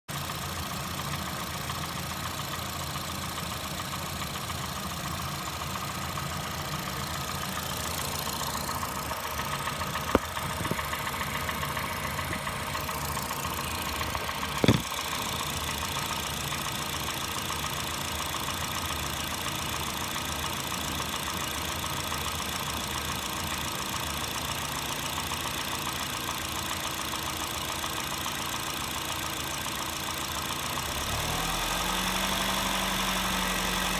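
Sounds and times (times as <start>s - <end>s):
car engine idling with knocking: 0.1s - 33.9s.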